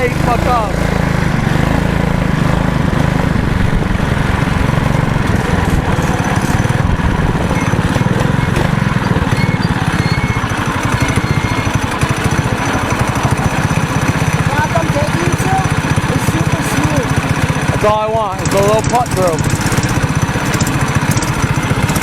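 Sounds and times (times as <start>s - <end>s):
small vehicle engine running: 0.0s - 22.0s.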